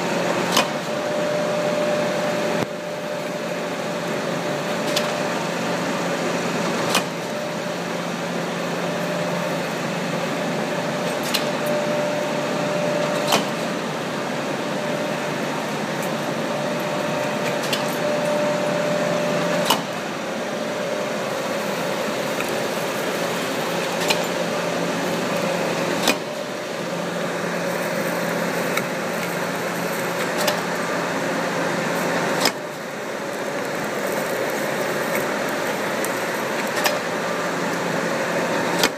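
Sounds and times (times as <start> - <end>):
metal planer drive hum: 0.0 - 38.9.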